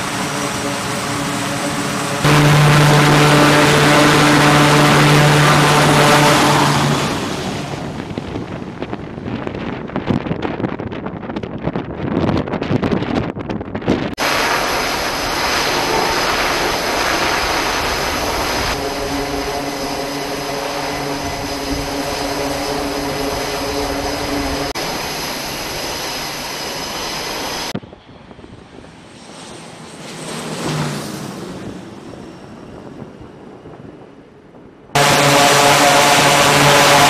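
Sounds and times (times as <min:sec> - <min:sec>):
distant aircraft engine: 0:00.0 - 0:10.5, 0:14.2 - 0:37.0
turboprop engines running: 0:00.0 - 0:11.3, 0:13.7 - 0:37.0.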